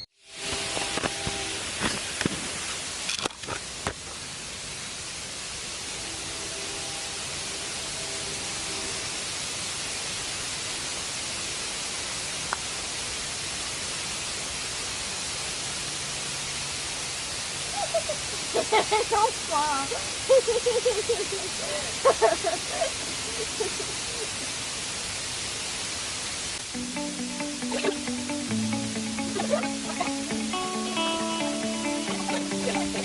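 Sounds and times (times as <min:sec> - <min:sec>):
rush of falling water: 0:00.1 - 0:33.0.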